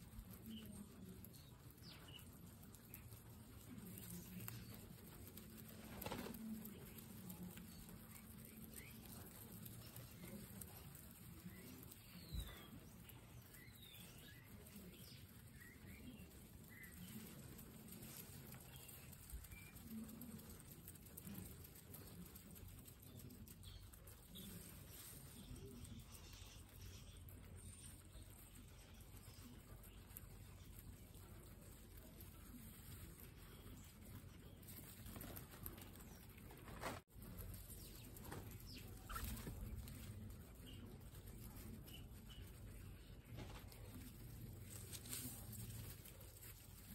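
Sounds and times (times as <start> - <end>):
guinea pigs eating grass: 0.0 - 46.9.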